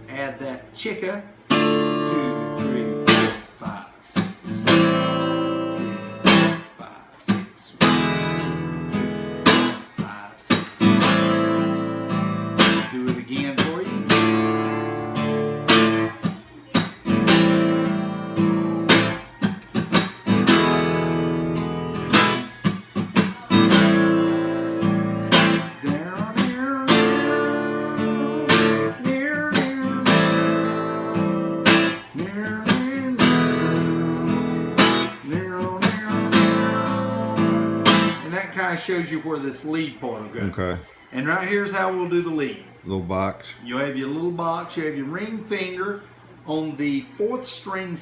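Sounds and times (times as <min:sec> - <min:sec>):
acoustic guitar strumming: 0:00.0 - 0:41.8.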